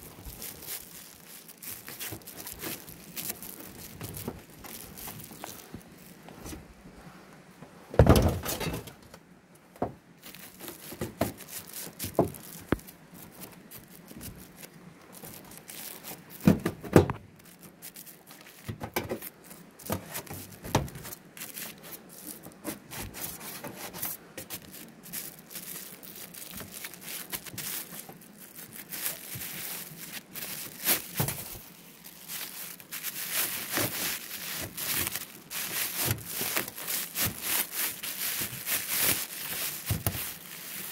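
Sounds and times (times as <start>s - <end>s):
plastic sheeting crinkling: 0.0s - 6.6s, 10.2s - 40.9s.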